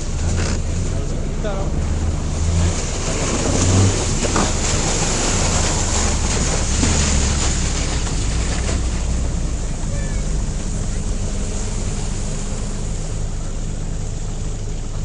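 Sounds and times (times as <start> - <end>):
constant hiss: 0.0 - 15.0
vehicle engine humming: 0.0 - 15.0.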